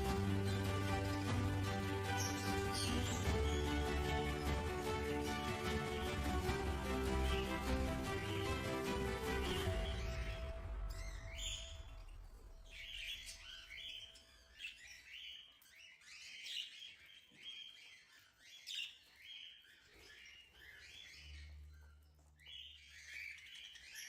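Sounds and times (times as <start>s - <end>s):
budgies chattering and chirping: 0.0s - 24.0s.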